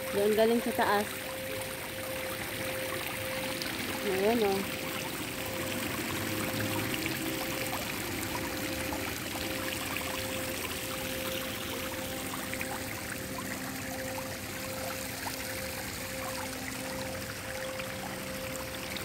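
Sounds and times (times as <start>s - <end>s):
faint steady tone: 0.0s - 19.0s
water pouring down a channel: 0.0s - 19.0s.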